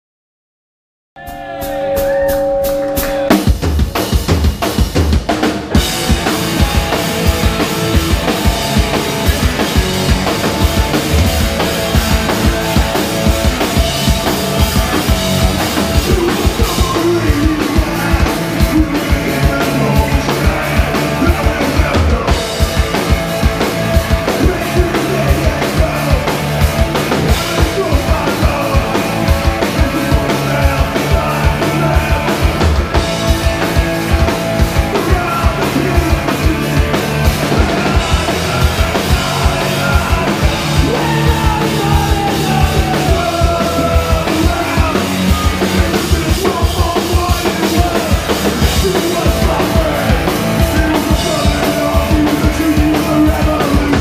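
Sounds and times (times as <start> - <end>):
punk rock band playing live: 1.2 - 54.0
fast drum beat: 1.4 - 54.0.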